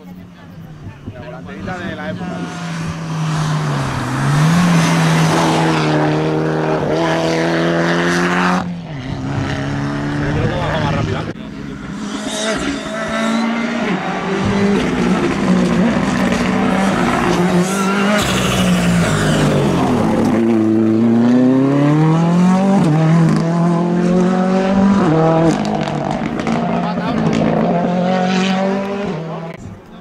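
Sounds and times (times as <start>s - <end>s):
rally car engine revving: 0.2s - 30.0s.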